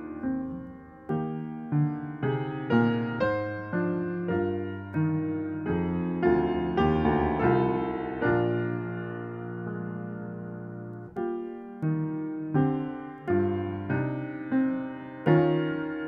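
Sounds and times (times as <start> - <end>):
solo grand piano piece: 0.0 - 16.0.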